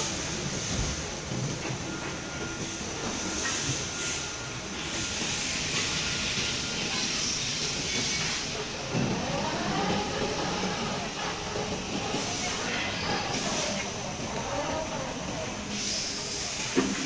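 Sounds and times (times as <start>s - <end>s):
steady hiss of machinery: 0.0s - 17.0s.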